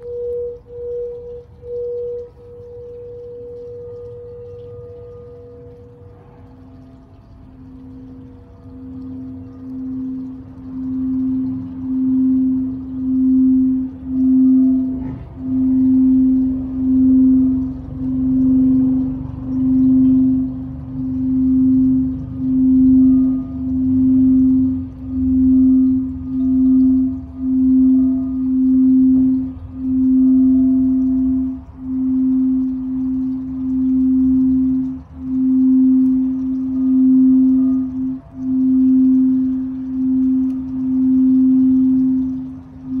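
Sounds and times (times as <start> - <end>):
singing bowl tone: 0.0 - 43.0.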